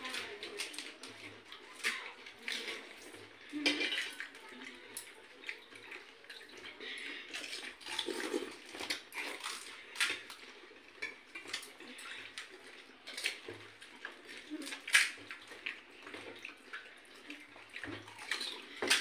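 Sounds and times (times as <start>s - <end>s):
liquid splashing: 0.0s - 19.0s.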